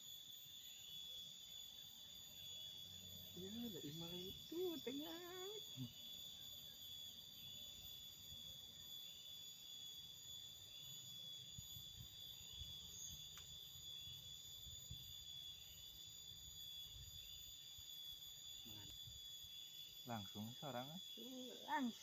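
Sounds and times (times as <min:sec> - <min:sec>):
faint high-pitched whine: 0:00.0 - 0:22.0.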